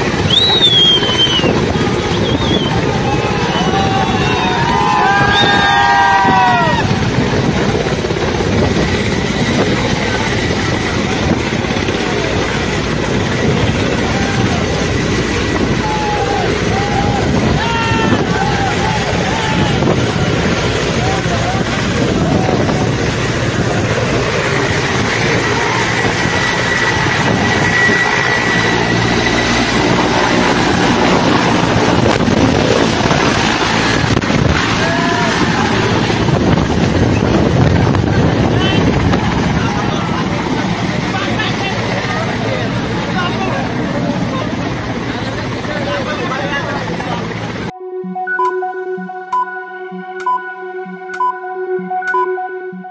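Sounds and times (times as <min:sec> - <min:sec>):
helicopter turbine and rotor noise: 0:00.0 - 0:47.7.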